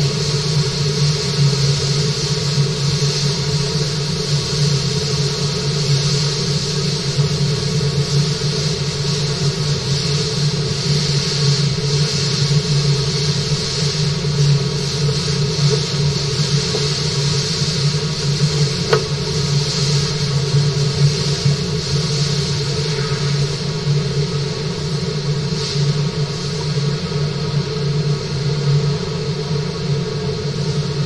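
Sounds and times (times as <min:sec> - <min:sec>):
running water hiss: 0:00.0 - 0:28.0
mechanical hum: 0:00.0 - 0:31.0.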